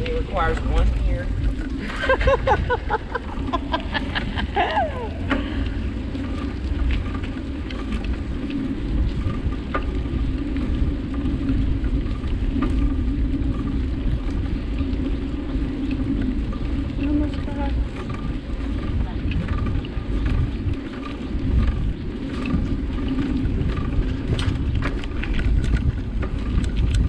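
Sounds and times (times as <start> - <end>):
bike tyre noise on road: 0.0 - 27.0
wind buffeting microphone: 0.0 - 27.0.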